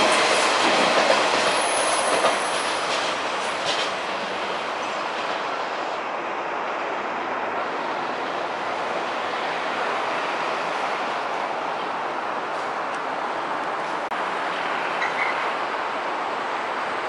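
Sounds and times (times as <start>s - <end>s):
train wheels rumbling on rail: 0.0s - 15.6s.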